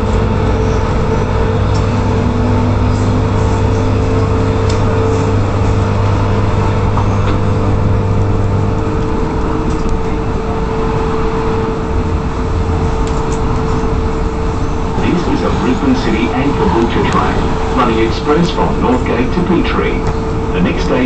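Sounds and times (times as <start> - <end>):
constant hum: 0.0 - 21.0
low drone: 0.0 - 21.0
train wheels rumbling on rail: 0.0 - 21.0.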